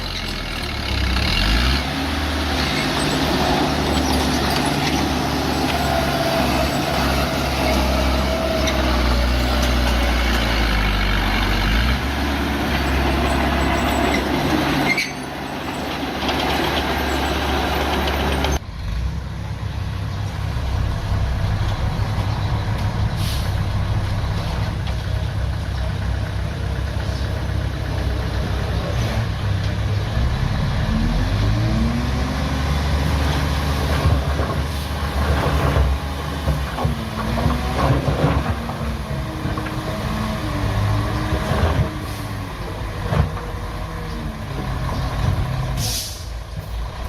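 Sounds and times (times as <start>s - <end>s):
bulldozer diesel engine: 0.0s - 47.0s.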